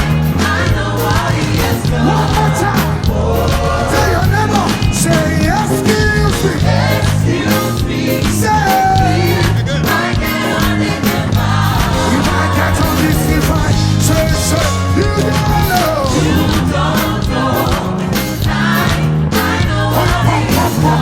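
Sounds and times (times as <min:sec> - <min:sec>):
gospel band playing: 0:00.0 - 0:21.0
lead voice singing: 0:00.0 - 0:21.0.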